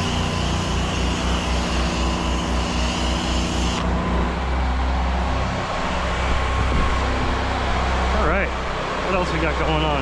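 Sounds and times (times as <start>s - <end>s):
pressure washer engine running: 0.0s - 10.0s.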